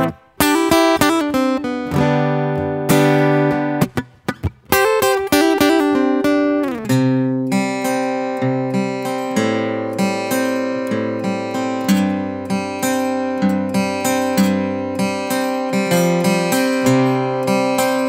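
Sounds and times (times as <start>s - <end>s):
acoustic guitar playing: 0.0s - 18.0s
choppy guitar strikes: 0.0s - 18.0s.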